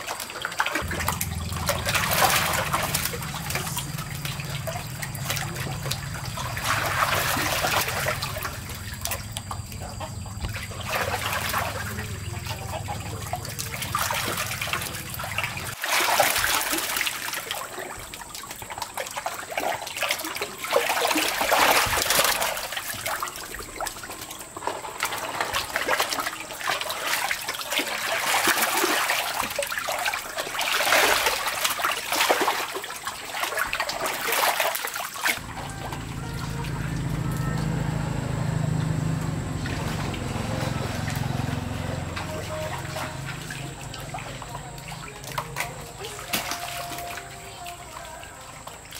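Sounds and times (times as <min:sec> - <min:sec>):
basket scooping water: 0:00.0 - 0:48.9
fish thrashing in water: 0:00.0 - 0:48.9.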